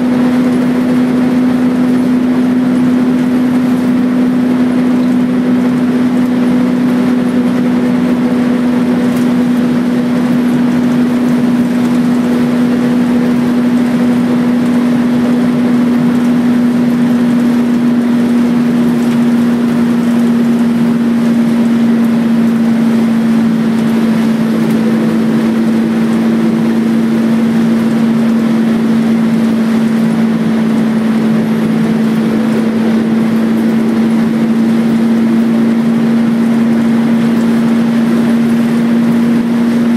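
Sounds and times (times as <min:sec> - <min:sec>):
bus diesel engine droning: 0:00.0 - 0:39.9
road noise: 0:00.0 - 0:39.9.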